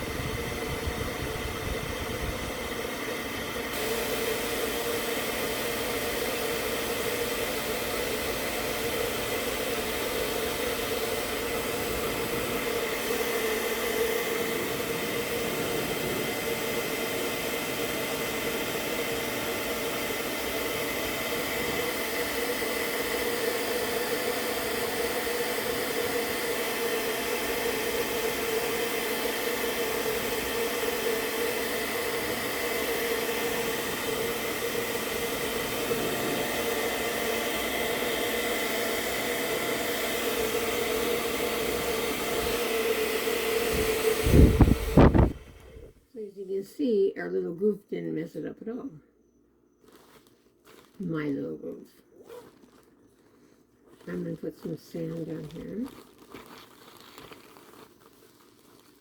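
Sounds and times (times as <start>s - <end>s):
hot-air blower whining: 0.0s - 46.1s, 51.0s - 52.4s, 54.0s - 56.0s.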